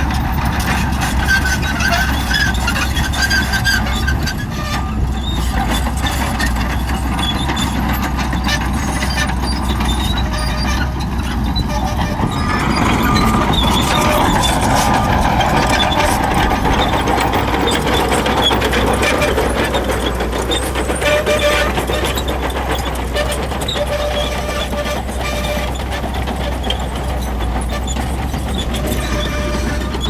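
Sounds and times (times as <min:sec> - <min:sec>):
bulldozer diesel engine: 0:00.0 - 0:30.0
steel tracks clattering: 0:00.0 - 0:30.0.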